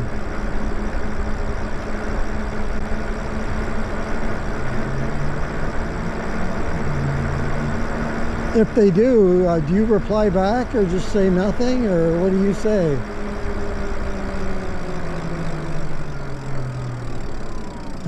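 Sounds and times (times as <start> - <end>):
electric motor hum: 0.0 - 18.0
lower hum: 0.0 - 18.0
road noise: 0.0 - 18.0.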